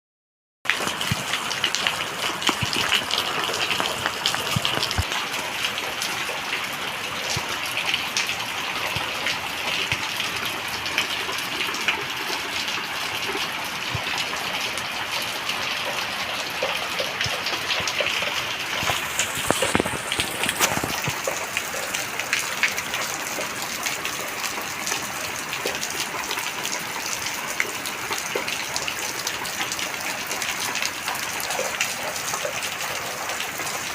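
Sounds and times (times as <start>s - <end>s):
heavy rain pouring: 0.7s - 33.9s.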